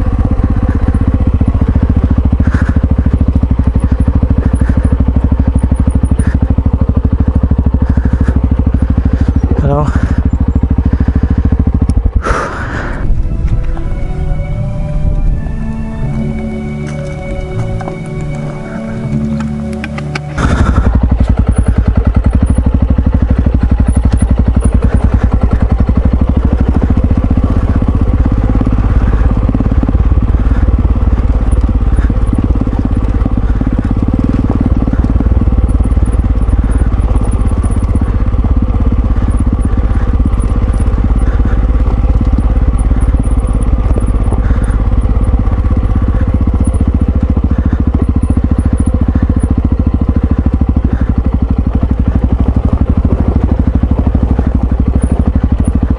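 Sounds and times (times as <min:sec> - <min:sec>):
motorcycle engine pulsing: 0:00.0 - 0:55.9.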